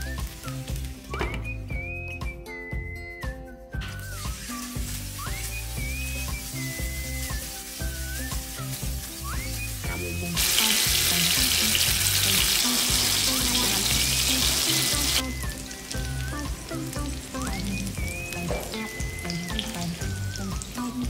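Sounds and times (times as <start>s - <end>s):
hot oil sizzling in frying pan: 0.0s - 1.1s, 4.0s - 21.0s
soft background music: 0.0s - 21.0s.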